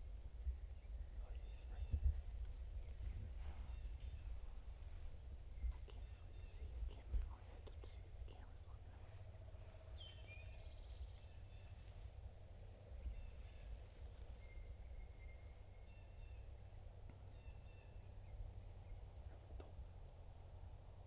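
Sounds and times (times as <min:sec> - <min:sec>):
low steady rumble: 0:00.0 - 0:21.0
songbirds calling: 0:00.4 - 0:20.5.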